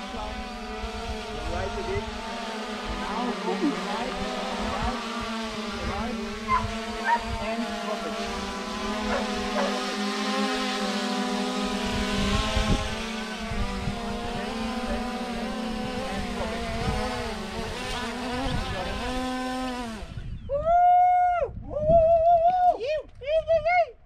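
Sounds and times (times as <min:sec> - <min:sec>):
drone rotors buzzing whine: 0:00.0 - 0:20.5.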